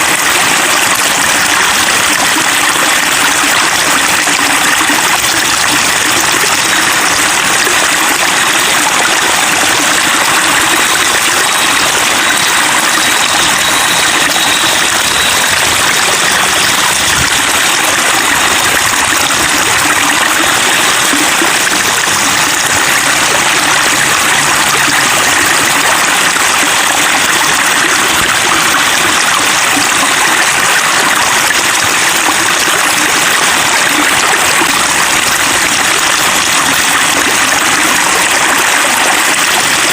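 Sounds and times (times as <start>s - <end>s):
babbling flowing water: 0.0s - 39.9s.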